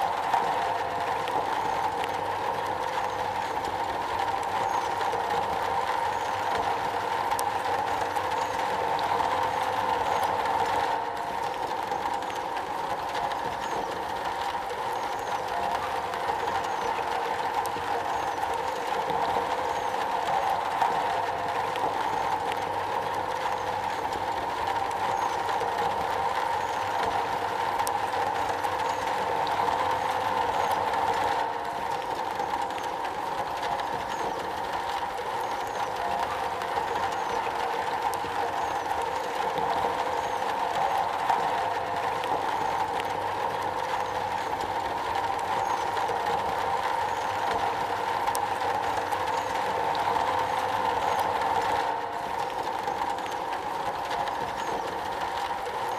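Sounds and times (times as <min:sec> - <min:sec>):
rain on a metal roof: 0:00.0 - 0:55.9.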